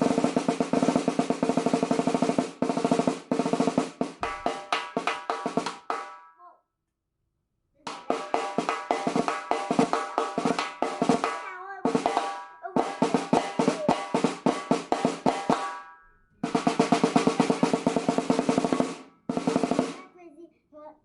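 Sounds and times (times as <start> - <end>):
snare drum strokes and rolls: 0.0 - 6.2, 7.9 - 20.1.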